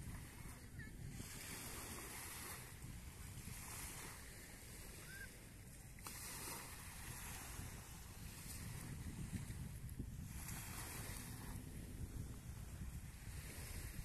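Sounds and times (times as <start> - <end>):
small waves washing in: 0.0 - 14.0
wind buffeting microphone: 0.0 - 14.0.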